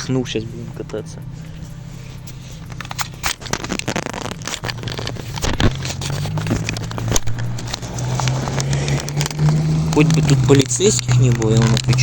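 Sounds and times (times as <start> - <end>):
rattling clicks and scrapes: 0.0 - 12.0
scooter wheels humming: 1.2 - 12.0.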